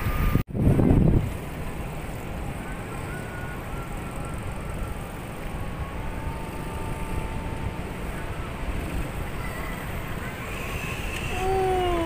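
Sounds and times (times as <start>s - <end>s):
quad bike engine running: 0.0s - 12.0s
wind buffeting microphone: 0.0s - 12.0s.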